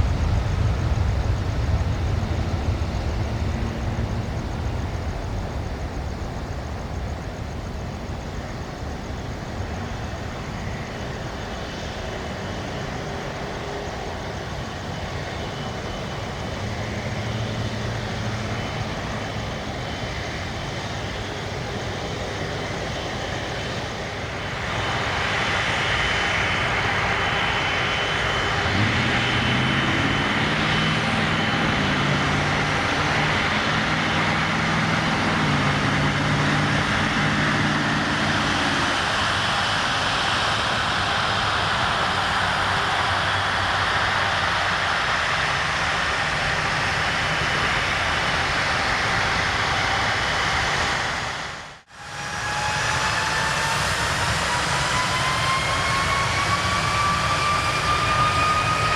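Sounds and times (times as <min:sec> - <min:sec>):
jet engines rumbling: 0:00.0 - 0:58.9.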